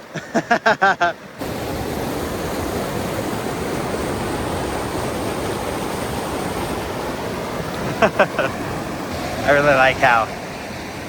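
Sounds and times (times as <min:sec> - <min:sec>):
river water roaring: 0:00.0 - 0:11.0.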